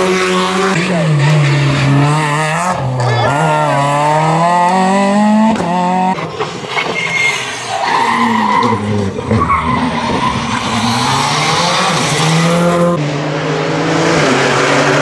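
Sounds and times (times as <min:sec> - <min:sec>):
rally car engine revving: 0:00.0 - 0:15.0
tyres skidding: 0:00.0 - 0:15.0.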